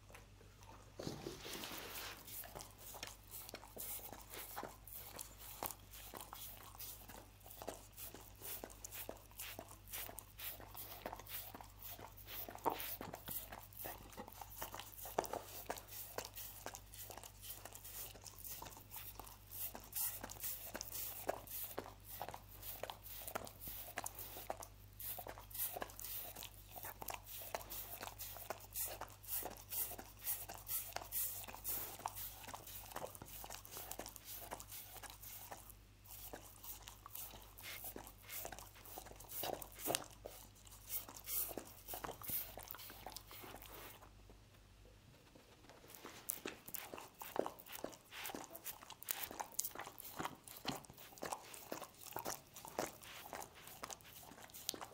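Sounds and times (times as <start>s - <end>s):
dog licking wet laps: 0.6s - 44.1s, 45.7s - 54.9s.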